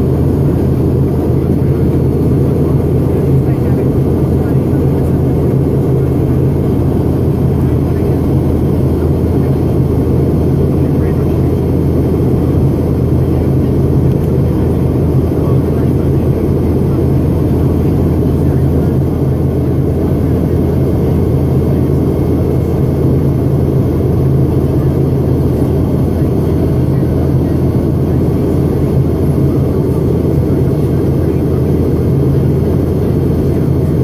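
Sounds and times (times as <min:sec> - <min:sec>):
constant hum: 0:00.0 - 0:34.0
jet airliner cabin drone: 0:00.0 - 0:34.0.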